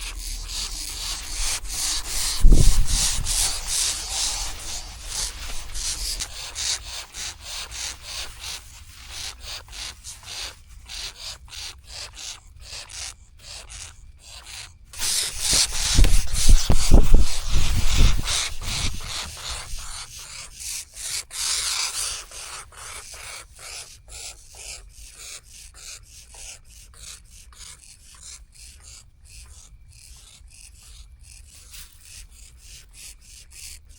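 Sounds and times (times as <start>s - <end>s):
owl chicks hissing begging calls: 0.0s - 33.9s.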